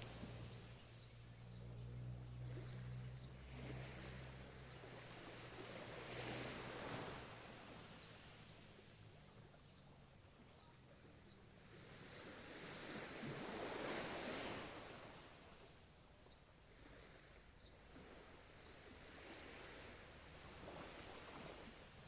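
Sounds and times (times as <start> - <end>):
ocean waves washing ashore: 0.0 - 22.0.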